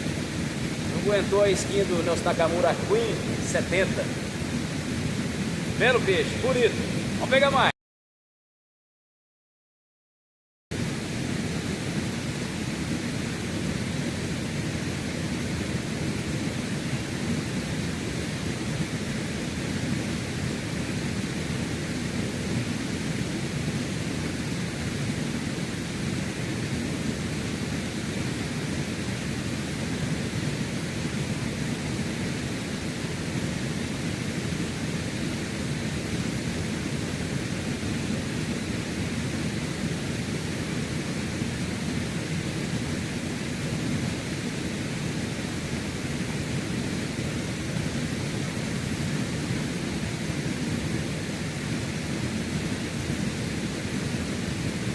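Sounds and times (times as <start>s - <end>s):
creek water rushing: 0.0s - 7.7s, 10.8s - 54.9s.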